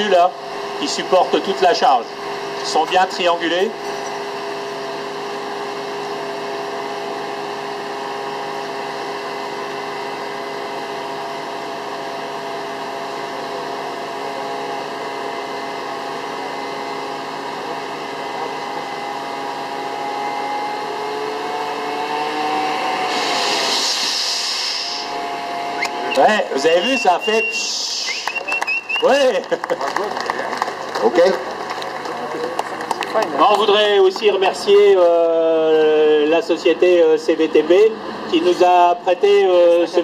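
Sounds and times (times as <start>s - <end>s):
truck engine and hydraulic winch: 0.0s - 35.4s.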